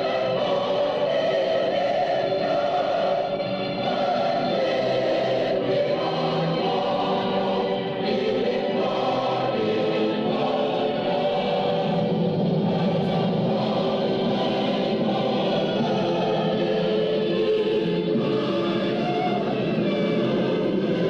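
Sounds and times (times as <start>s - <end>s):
group singing in chorus: 0.0s - 21.0s.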